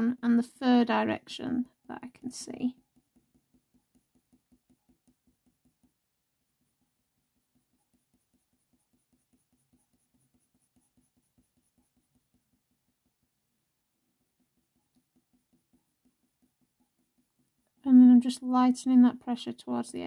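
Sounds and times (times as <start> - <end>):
pencil scratching on paper: 1.6 - 18.4.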